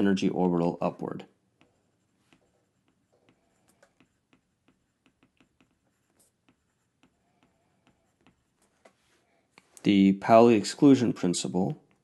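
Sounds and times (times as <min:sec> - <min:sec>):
stylus ticking and scratching on screen: 0:00.0 - 0:09.9, 0:10.8 - 0:12.0.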